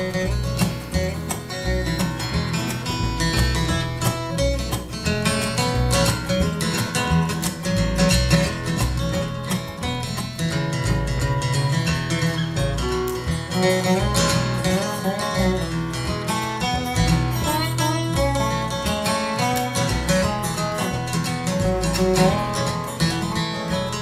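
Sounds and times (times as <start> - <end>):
resonator guitar sliding lead: 0.0 - 24.0
strummed acoustic guitar: 0.0 - 24.0
upright bass: 0.0 - 24.0.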